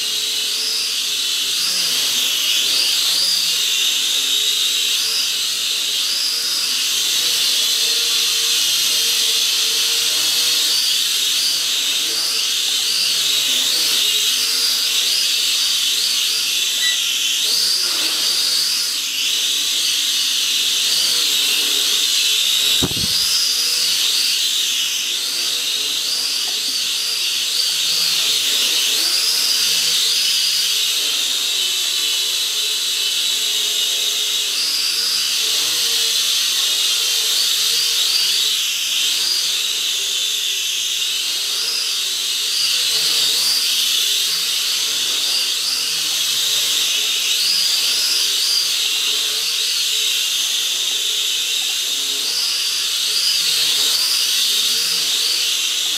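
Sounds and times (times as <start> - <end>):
quadcopter motors whining: 0.0 - 55.9.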